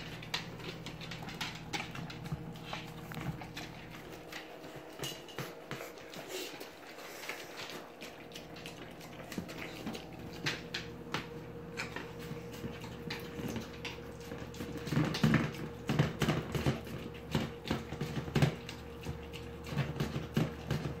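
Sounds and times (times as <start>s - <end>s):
dog chomping and licking food: 0.0s - 21.0s.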